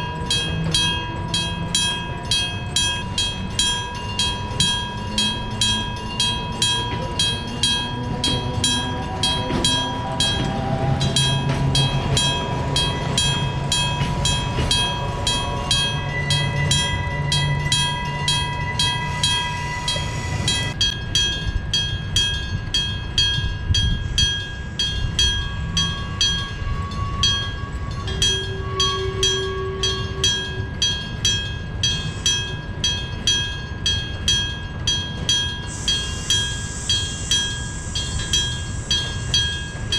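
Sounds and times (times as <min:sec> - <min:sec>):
train motor whine: 0:00.0 - 0:22.8, 0:23.4 - 0:39.9
level crossing bell ringing: 0:00.0 - 0:39.9
low train rumble: 0:00.0 - 0:39.9.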